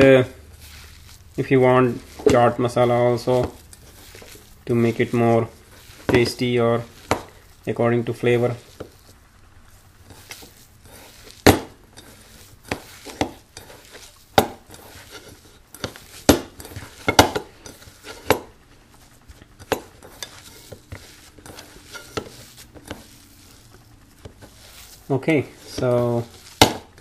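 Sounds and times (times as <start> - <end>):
hand squishing potato mixture: 0.0 - 27.0.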